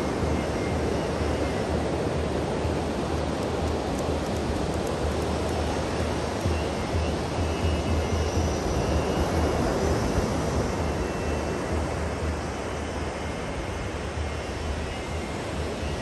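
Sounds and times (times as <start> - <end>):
constant low rumble: 0.0 - 16.0
surf washing up a beach: 0.0 - 16.0.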